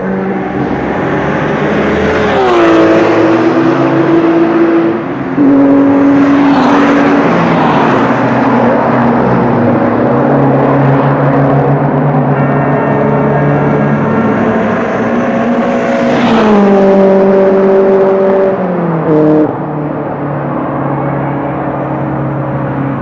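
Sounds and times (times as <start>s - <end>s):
racing cars passing at speed: 0.0s - 23.0s.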